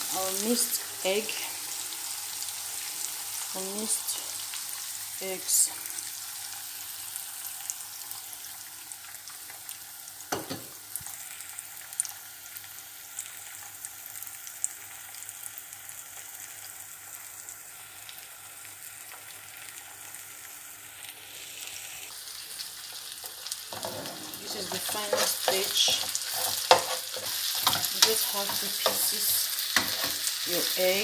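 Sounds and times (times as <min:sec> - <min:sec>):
egg sizzling in a pan: 0:00.0 - 0:31.0.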